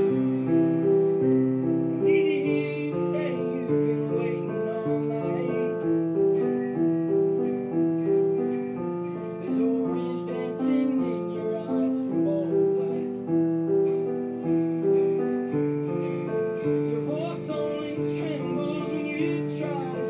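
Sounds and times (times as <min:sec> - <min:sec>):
piano playing broken chords: 0:00.0 - 0:20.0.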